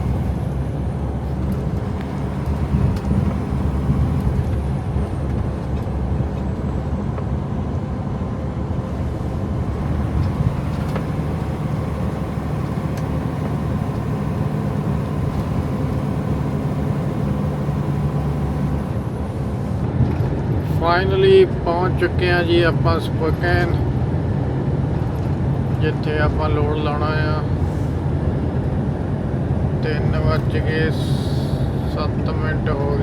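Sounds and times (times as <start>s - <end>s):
road noise: 0.0s - 33.0s
truck diesel engine drone: 0.0s - 33.0s.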